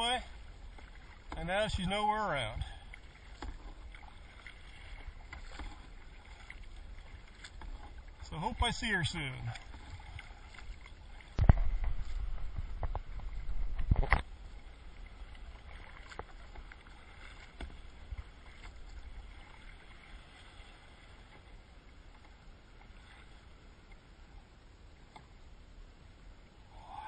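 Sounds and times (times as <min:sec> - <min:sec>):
paddle strokes: 0:00.0 - 0:25.4
water sloshing against hull: 0:00.0 - 0:27.0.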